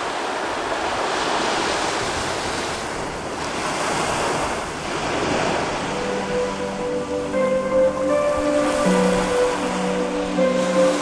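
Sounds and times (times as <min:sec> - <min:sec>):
waves on rocky shore: 0:00.0 - 0:11.0
wind buffeting microphone: 0:00.0 - 0:11.0.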